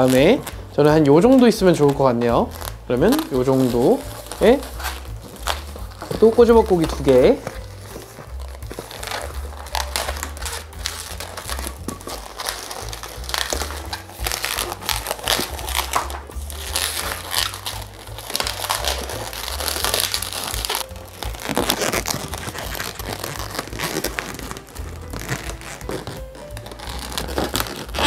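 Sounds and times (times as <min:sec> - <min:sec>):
background music: 0:00.0 - 0:28.0
balloon crinkling and rubbing: 0:00.0 - 0:28.0.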